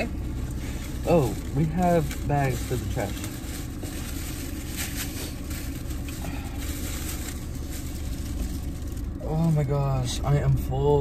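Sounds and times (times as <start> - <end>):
faint rustles: 0.0 - 9.7
car cabin rumble: 0.0 - 11.0.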